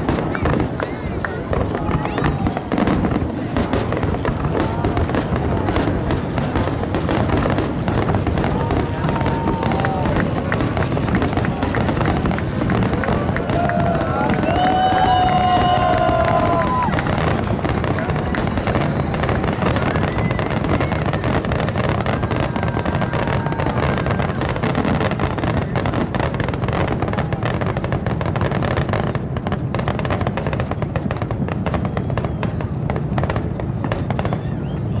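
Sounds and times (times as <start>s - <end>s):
fireworks booms and crackling: 0.0s - 35.0s.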